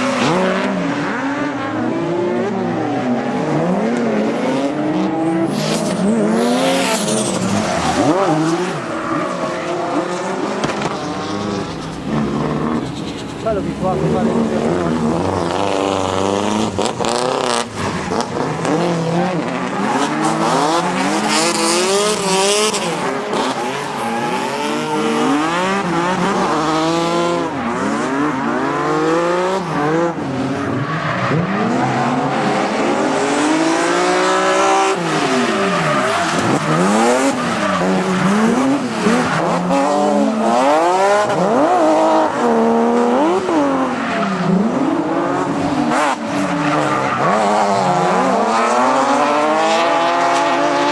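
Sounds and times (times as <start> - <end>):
car engine revving hard: 0.0 - 50.9.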